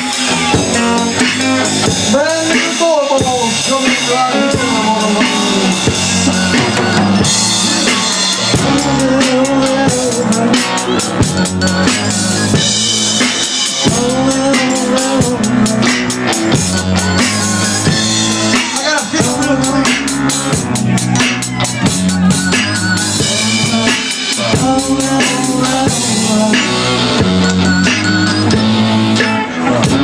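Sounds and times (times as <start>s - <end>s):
band playing live: 0.0s - 30.0s
drum kit with cymbals: 0.0s - 30.0s
electric guitars: 0.0s - 30.0s.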